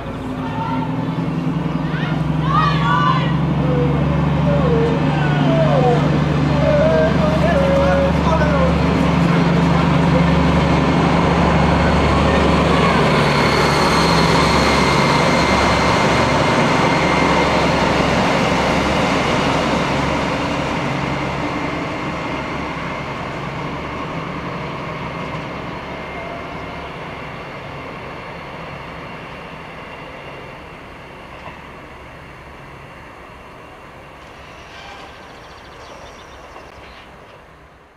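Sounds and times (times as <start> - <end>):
diesel train engine hum: 0.0 - 37.9.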